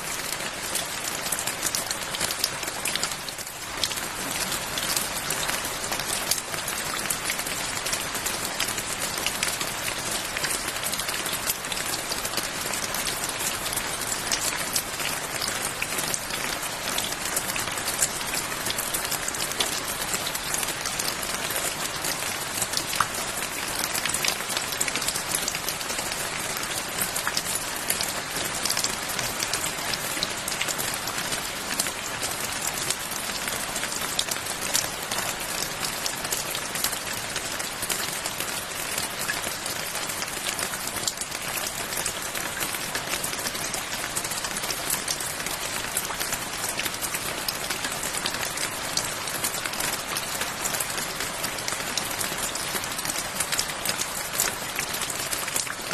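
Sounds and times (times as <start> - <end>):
steady rain on a surface: 0.0 - 55.9.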